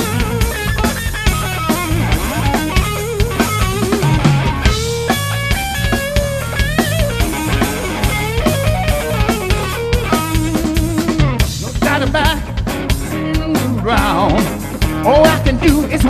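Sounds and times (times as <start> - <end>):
bending lead guitar melody: 0.0 - 16.0
blues-rock band playing: 0.0 - 16.0.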